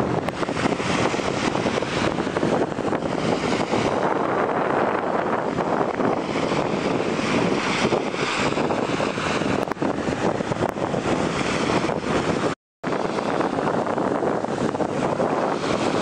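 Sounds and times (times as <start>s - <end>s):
waves washing on sand beach: 0.0s - 16.0s.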